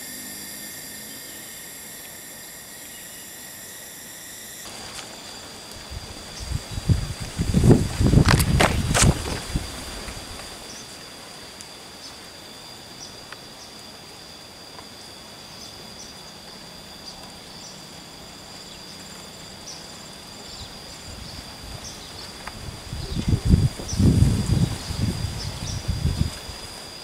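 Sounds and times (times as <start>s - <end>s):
high-pitched insect drone: 0.0s - 27.0s
insect chirps: 0.0s - 27.0s.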